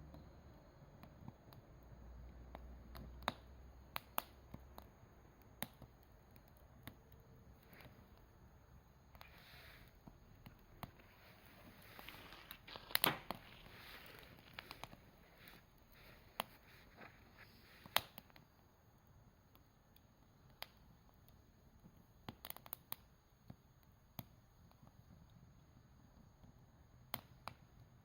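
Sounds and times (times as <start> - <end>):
faint hiss: 0.0 - 28.0
campfire crackling and popping: 0.8 - 28.0.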